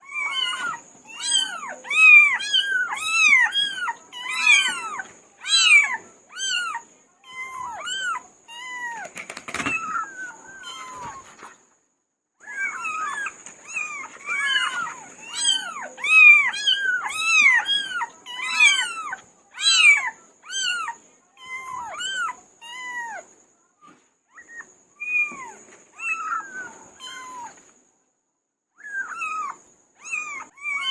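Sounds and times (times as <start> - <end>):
kittens meowing: 0.0 - 11.5, 12.4 - 23.3, 24.3 - 27.6, 28.8 - 30.9.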